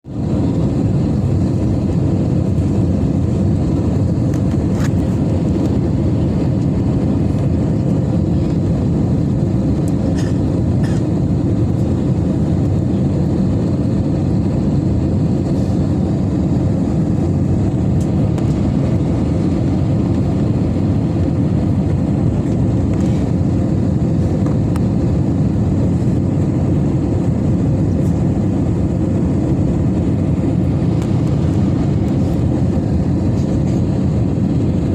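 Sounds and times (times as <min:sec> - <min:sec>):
airliner engines rumbling: 0:00.0 - 0:34.9.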